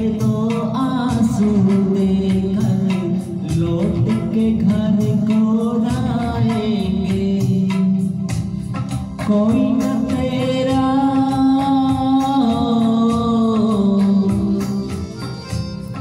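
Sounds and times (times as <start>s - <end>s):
instrumental accompaniment with beat: 0.0s - 16.0s
man singing into a microphone: 0.0s - 16.0s.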